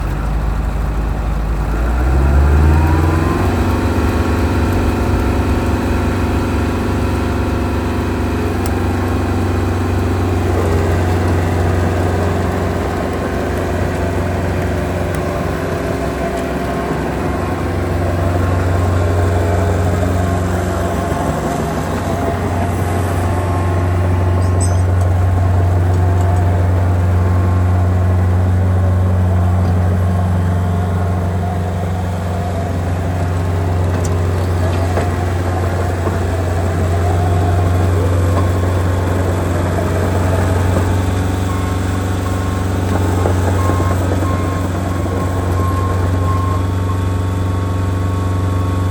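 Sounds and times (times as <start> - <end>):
paver diesel engine humming: 0.0 - 48.9.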